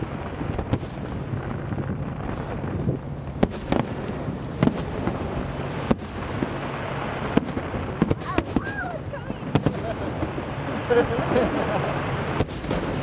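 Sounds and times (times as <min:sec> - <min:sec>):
fireworks bangs: 0:00.0 - 0:13.0
steady low rumble: 0:00.0 - 0:13.0.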